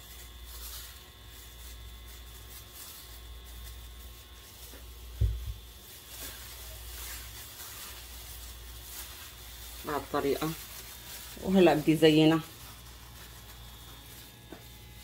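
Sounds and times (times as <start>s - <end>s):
rustling of plastic gloves: 0.0s - 15.0s
steady low hum: 0.0s - 15.0s.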